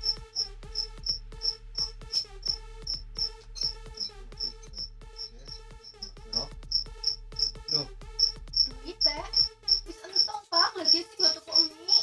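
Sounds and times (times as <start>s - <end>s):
cricket chirping: 1.8s - 12.0s.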